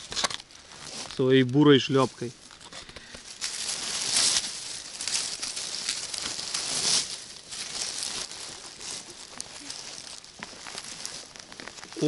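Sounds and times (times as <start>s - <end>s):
dry forest litter rustling: 0.0s - 12.0s.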